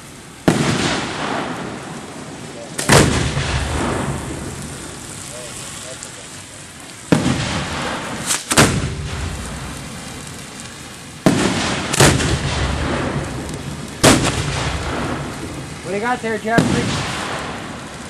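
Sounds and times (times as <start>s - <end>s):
firework shell booms: 0.4s - 5.5s, 7.0s - 10.4s, 11.2s - 18.0s.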